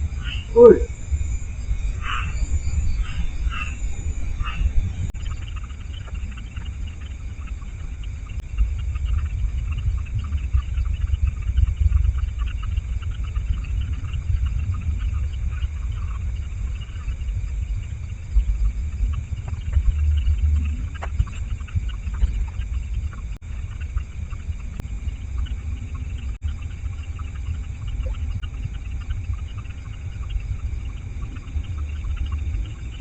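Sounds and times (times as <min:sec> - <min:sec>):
insects chirping: 0:00.0 - 0:33.0
wind buffeting microphone: 0:00.0 - 0:33.0.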